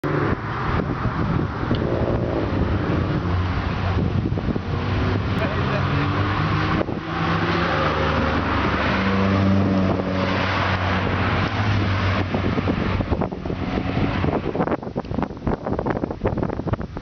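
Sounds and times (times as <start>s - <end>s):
car accelerating past: 0.1s - 14.6s.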